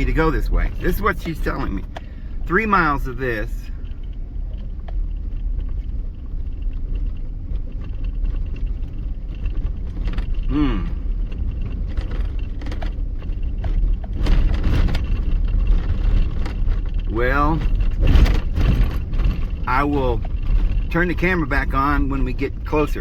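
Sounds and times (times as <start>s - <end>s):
engine and tyres rumbling: 0.0s - 23.0s
rattles and knocks from bumps: 0.0s - 23.0s.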